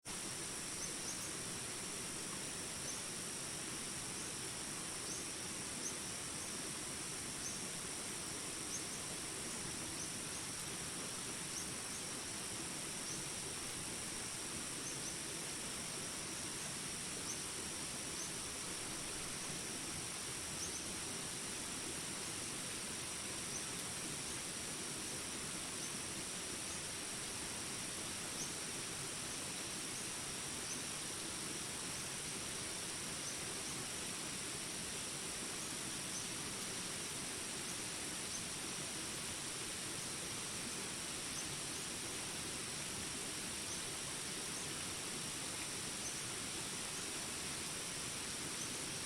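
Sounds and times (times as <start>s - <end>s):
insects droning: 0.0s - 49.0s
rain hiss: 0.0s - 49.0s.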